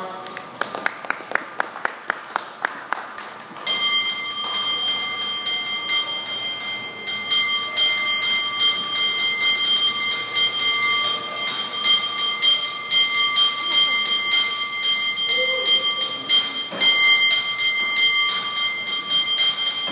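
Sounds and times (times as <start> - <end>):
cable car bell ringing: 3.6 - 19.9.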